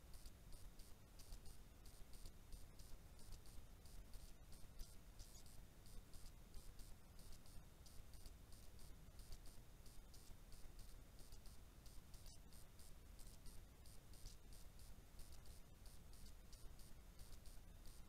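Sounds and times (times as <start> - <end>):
low hiss: 0.0 - 18.0.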